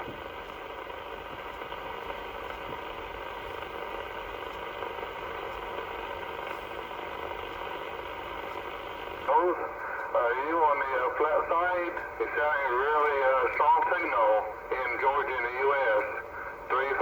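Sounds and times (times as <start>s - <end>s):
faint steady tones: 0.0s - 17.0s
radio static hiss: 0.0s - 17.0s.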